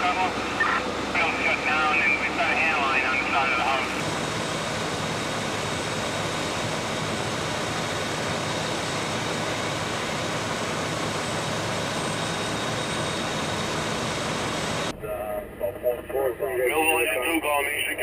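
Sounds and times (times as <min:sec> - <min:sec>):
diesel pump engines roaring: 0:00.0 - 0:18.0.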